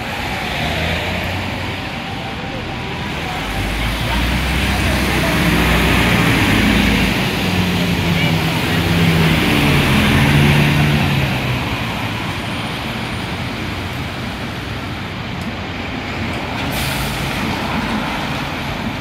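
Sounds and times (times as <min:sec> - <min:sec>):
bus diesel engine: 0:00.0 - 0:19.0
traffic noise: 0:00.0 - 0:19.0
tyres hissing on wet road: 0:00.0 - 0:19.0.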